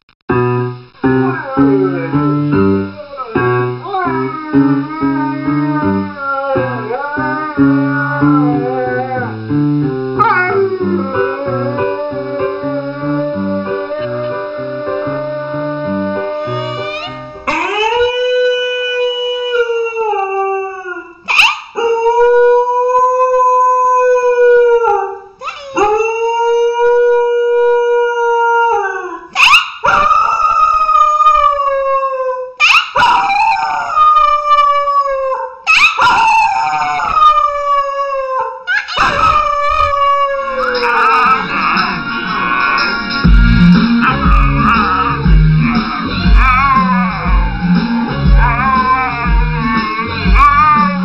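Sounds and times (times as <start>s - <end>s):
dog howling: 1.2s - 9.4s, 10.2s - 51.0s.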